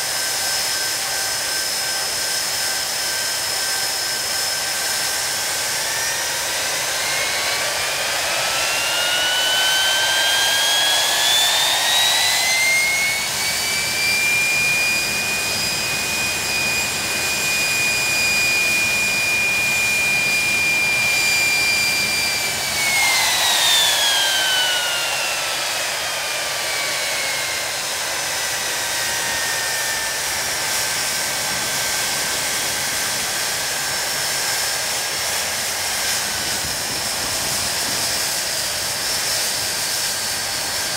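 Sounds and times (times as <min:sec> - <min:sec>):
jet engine whine: 0:00.0 - 0:40.9
steady rushing roar: 0:00.0 - 0:40.9.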